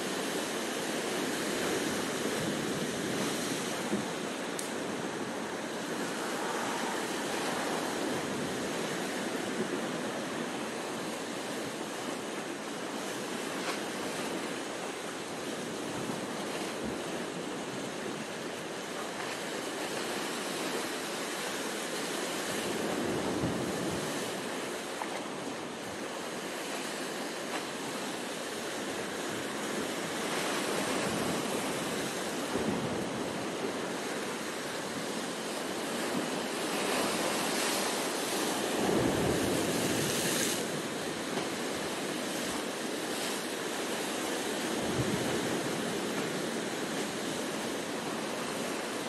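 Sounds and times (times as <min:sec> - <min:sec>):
sea surf breaking on rocks: 0:00.0 - 0:49.0.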